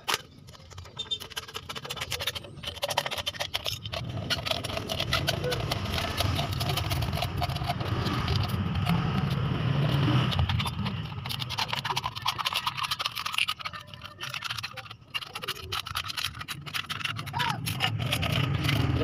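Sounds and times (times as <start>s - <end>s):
scissors cutting metal can: 0.0s - 19.0s.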